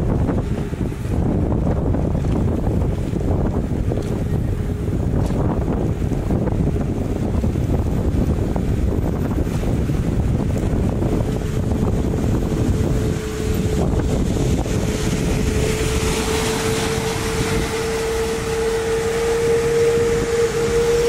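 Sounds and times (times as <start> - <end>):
steady hum: 0.0 - 21.0
wind buffeting microphone: 0.0 - 21.0.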